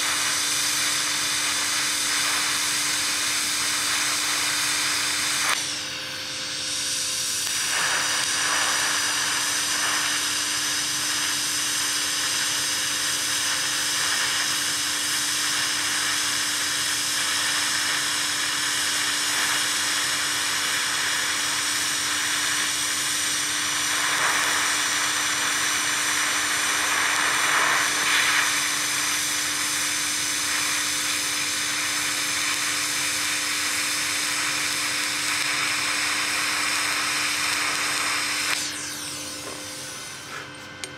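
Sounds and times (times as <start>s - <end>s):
welding arc hissing: 0.0s - 40.7s.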